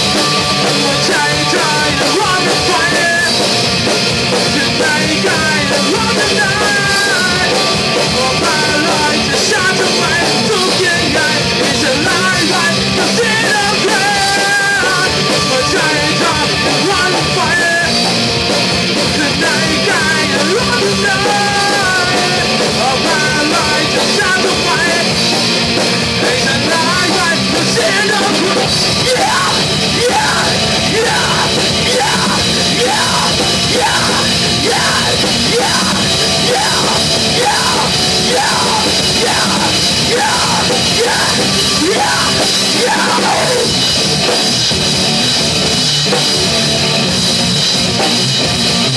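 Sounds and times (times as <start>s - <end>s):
man singing: 0.0s - 18.2s, 18.9s - 44.4s
drum kit: 0.0s - 48.9s
electric guitar: 0.0s - 48.9s.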